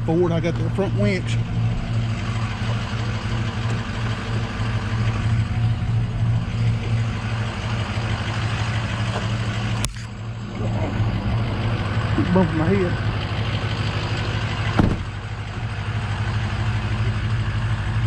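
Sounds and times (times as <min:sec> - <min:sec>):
heavy truck engine idling: 0:00.0 - 0:18.0.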